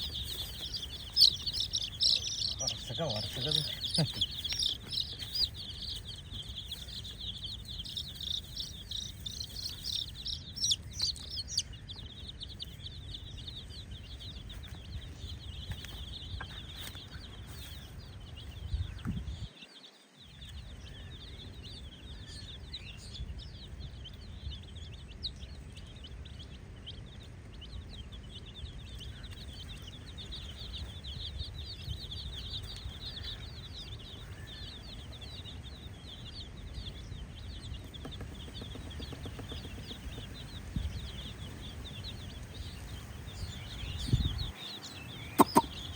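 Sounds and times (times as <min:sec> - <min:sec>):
baby chicks peeping: 0:00.0 - 0:45.9.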